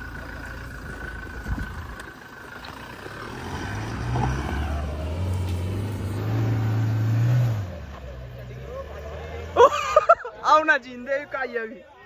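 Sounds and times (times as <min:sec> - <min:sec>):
diesel engine revving hard: 0:00.0 - 0:10.1.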